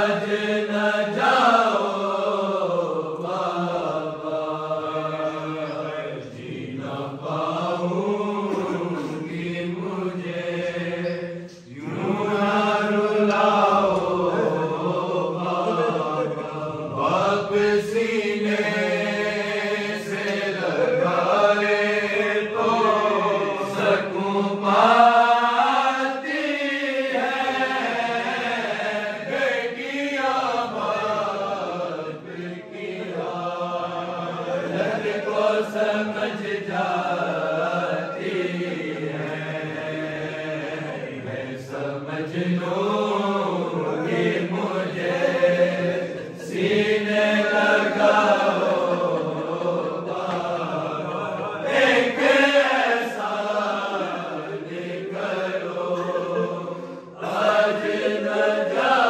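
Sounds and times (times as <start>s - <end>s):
men chanting: 0.0s - 59.0s.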